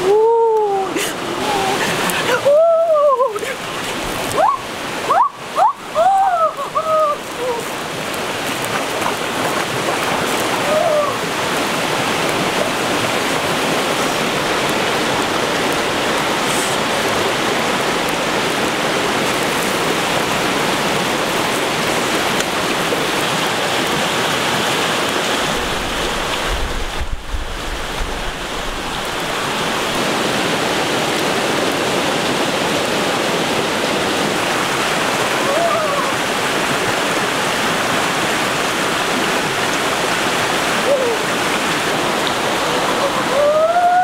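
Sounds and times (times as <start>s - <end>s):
stream rushing: 0.0s - 44.0s.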